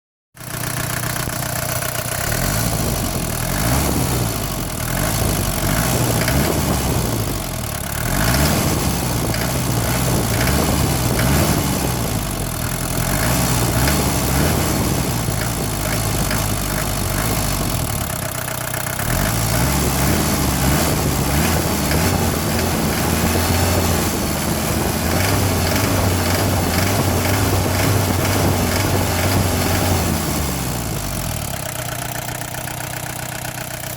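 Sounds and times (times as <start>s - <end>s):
diesel engine idling and revving: 0.4s - 33.9s.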